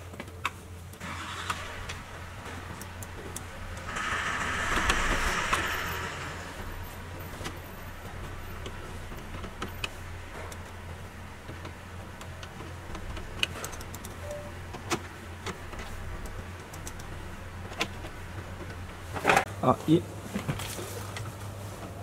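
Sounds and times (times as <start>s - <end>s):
steady low hum: 1.6s - 19.4s.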